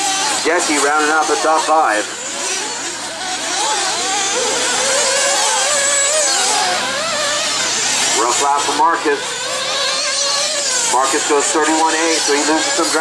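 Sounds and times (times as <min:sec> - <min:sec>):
model car engines buzzing: 0:00.0 - 0:13.0.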